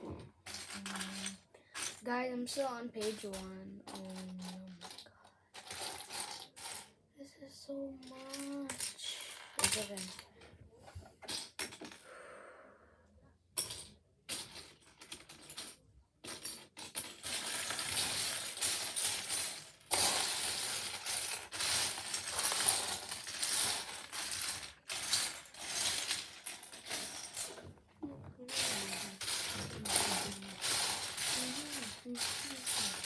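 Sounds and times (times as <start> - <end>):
plastic toy bricks clattering: 0.0 - 6.9, 8.0 - 10.4, 13.7 - 33.0.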